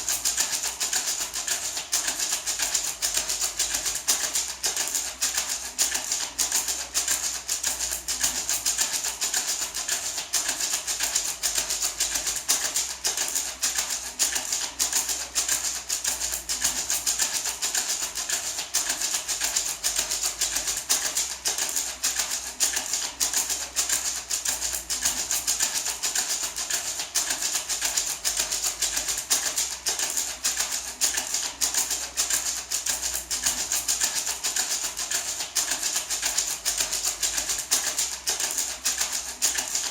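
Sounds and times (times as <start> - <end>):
gourd maraca rattling: 0.0 - 39.9.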